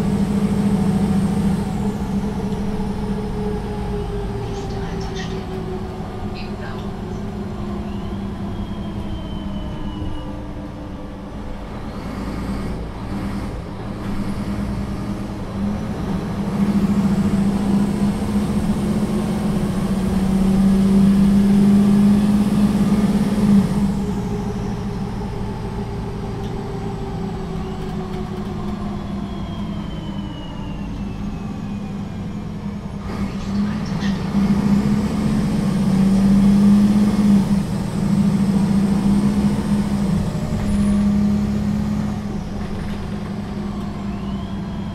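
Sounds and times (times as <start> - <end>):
bus diesel engine at full throttle: 0.0 - 44.9.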